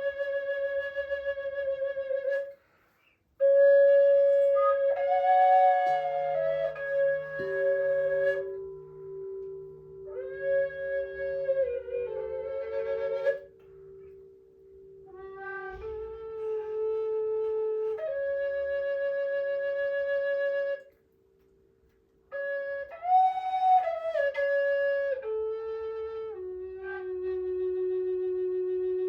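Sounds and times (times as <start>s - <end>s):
flute-like instrument long notes: 0.0s - 2.6s, 3.4s - 14.2s, 15.0s - 21.0s, 22.3s - 29.0s.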